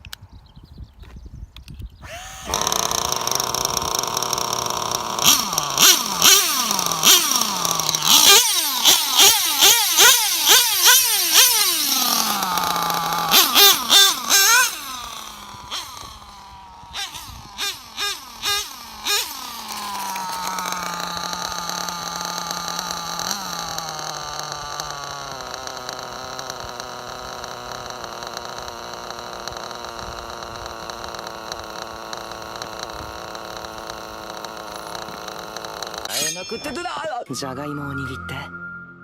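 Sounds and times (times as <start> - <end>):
small model engine revving: 2.0 - 36.6.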